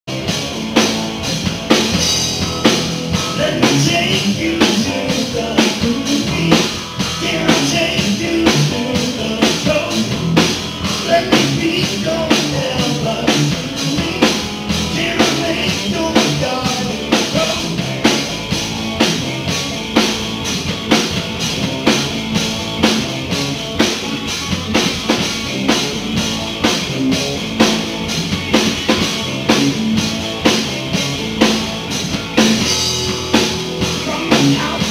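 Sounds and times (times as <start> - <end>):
blues-rock band playing: 0.1 - 34.9.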